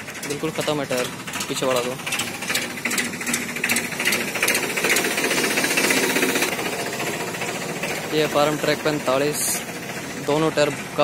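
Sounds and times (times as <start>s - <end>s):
tractor diesel engine clattering: 0.0s - 11.0s.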